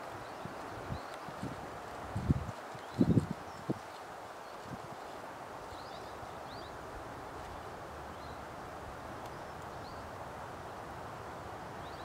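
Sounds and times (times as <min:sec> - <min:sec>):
breeze through pine forest: 0:00.0 - 0:12.0.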